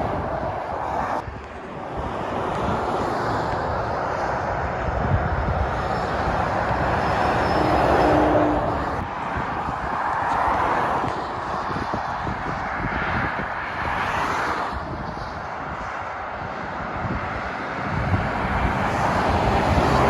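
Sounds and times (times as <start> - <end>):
lorries passing on motorway: 0.0 - 20.0.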